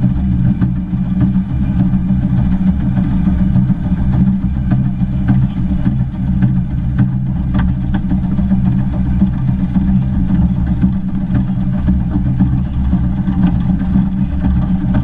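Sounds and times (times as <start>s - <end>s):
steam locomotive rumble: 0.0s - 15.0s.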